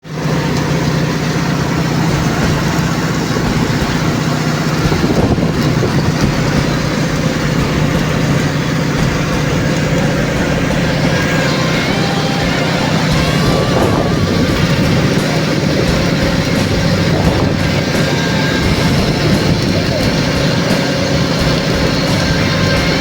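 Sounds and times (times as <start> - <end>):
welding rig drone: 0.0 - 23.0
welding crackle: 0.2 - 23.0.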